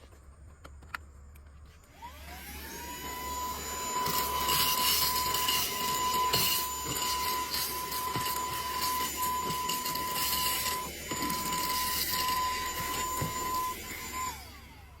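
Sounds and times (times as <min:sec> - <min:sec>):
vacuum cleaner motor whining: 0:01.8 - 0:15.0.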